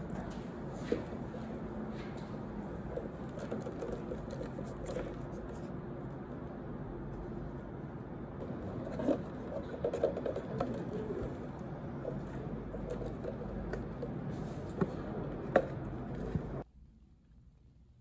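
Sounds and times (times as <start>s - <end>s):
room noise: 0.0s - 18.0s.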